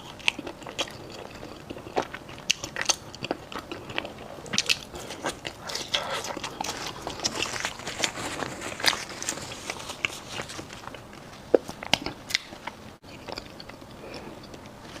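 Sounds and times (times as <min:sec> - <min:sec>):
crunchy pastry chewing: 0:00.0 - 0:15.0.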